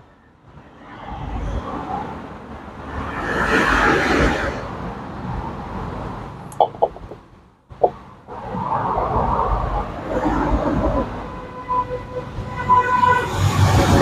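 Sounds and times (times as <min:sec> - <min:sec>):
passing vehicle road noise: 0:00.4 - 0:14.0.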